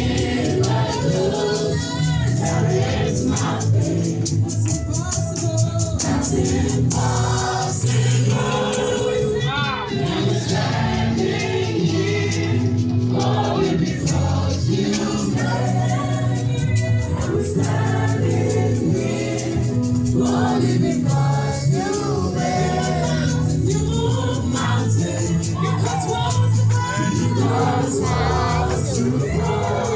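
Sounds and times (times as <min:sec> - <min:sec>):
bass and drums beat: 0:00.0 - 0:29.9
choir singing gospel music: 0:00.0 - 0:29.9.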